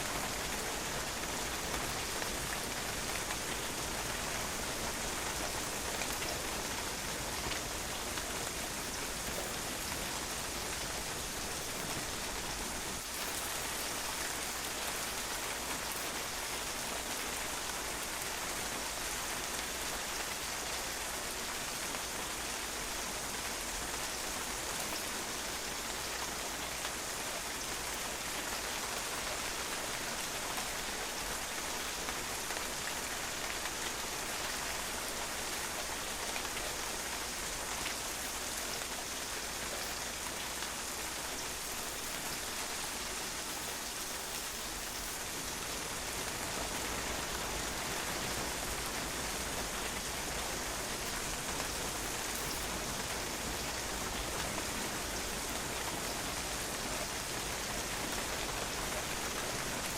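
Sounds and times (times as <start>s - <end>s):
rain pattering on a patio: 0.0s - 59.9s.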